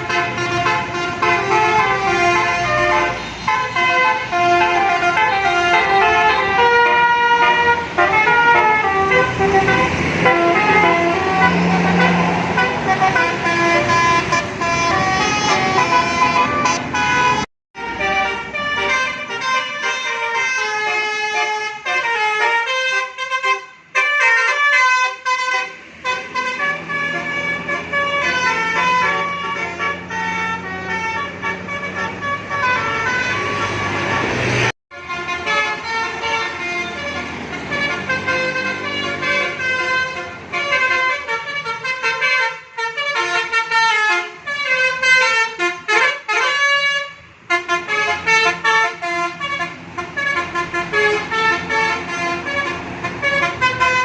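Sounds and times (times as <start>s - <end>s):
bus engine running: 0.0s - 54.0s
musical air horns playing tunes: 0.0s - 54.0s.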